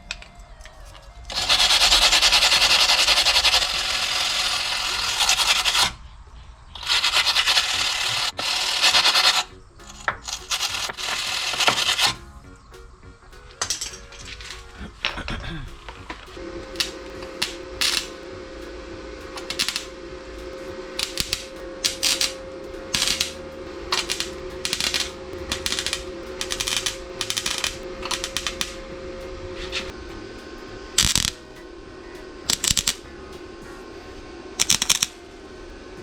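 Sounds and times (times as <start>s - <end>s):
steady hum: 0.0s - 36.0s
welder crackling bursts: 1.2s - 6.0s, 6.8s - 12.6s, 13.3s - 33.8s, 34.5s - 35.2s.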